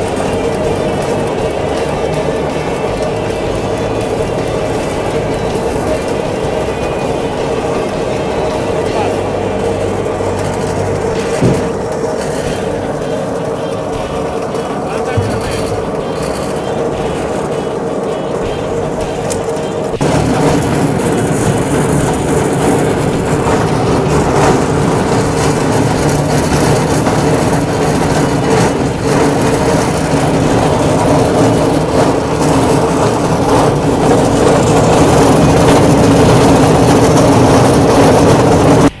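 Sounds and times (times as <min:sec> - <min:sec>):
grinder mill humming: 0:00.0 - 0:39.0
rushing noise: 0:00.0 - 0:39.0.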